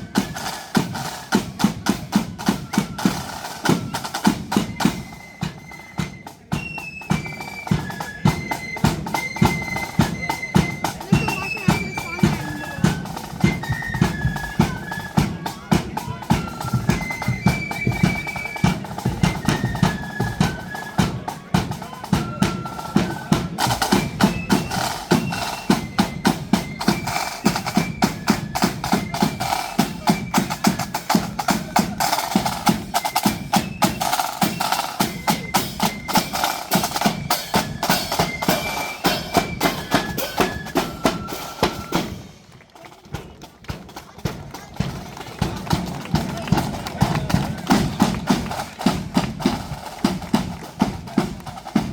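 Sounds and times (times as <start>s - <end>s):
flutes playing a tune: 0.0s - 43.4s, 45.3s - 51.9s
snare drum rolls: 0.0s - 51.9s.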